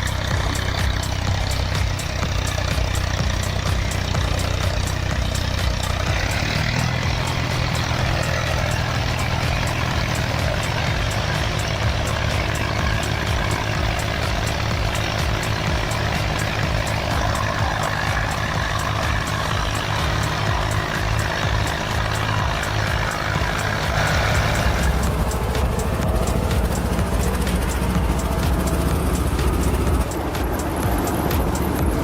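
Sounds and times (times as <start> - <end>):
faint regular ticking: 0.0 - 32.0
tractor diesel engine running: 0.0 - 32.0.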